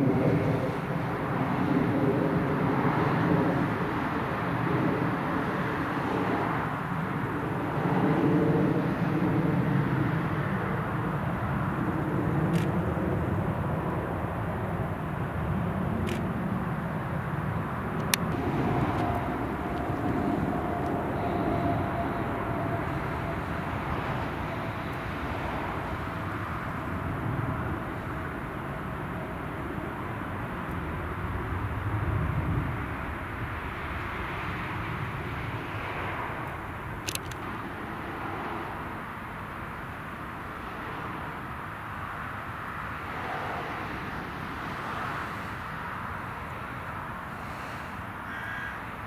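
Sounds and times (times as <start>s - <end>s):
faint steady whine: 0.0s - 49.0s
jet engines rumbling: 0.0s - 49.0s.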